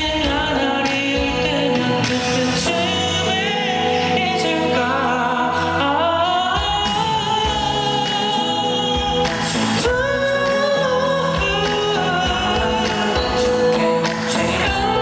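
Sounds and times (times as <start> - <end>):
band accompaniment: 0.0 - 15.0
man singing pop ballad: 0.0 - 15.0.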